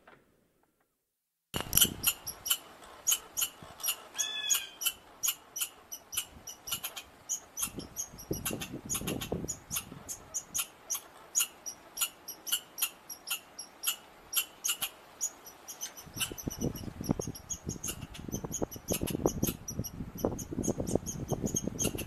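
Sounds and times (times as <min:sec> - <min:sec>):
squirrel chirping: 0:01.6 - 0:22.0.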